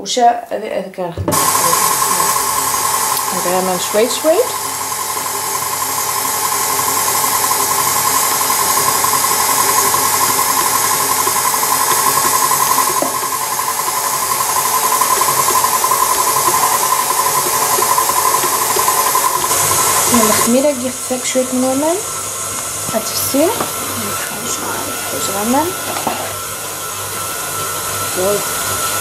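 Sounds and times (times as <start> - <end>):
stand mixer whining: 1.3 - 29.0.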